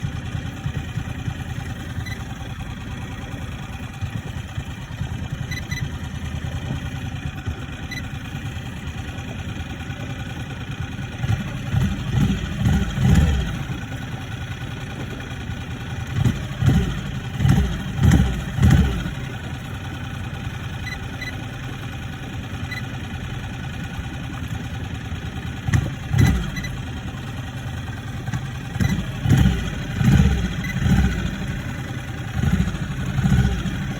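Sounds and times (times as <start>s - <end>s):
outboard motor idling and revving: 0.0s - 33.9s.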